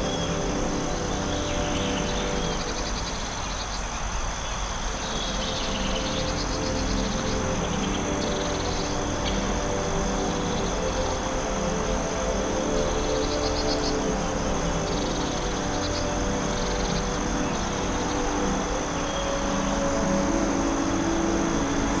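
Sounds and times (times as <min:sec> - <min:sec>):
high-pitched insect drone: 0:00.0 - 0:22.0
insects chirping in rapid pulses: 0:00.0 - 0:22.0
low background rush: 0:00.0 - 0:22.0.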